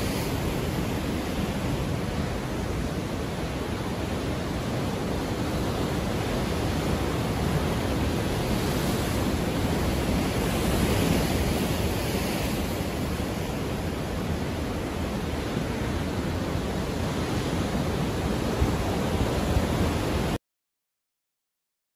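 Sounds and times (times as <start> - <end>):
waves breaking: 0.0 - 20.4.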